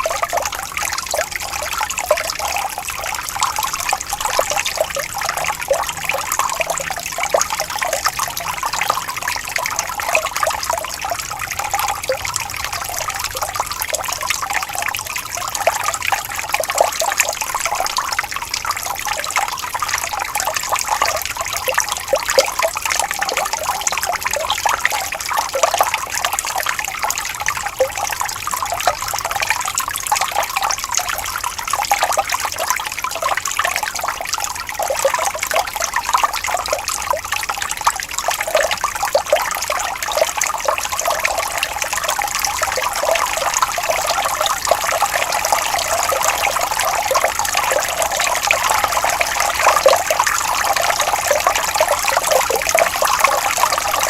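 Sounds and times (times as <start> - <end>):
stream trickling and babbling: 0.0 - 54.0.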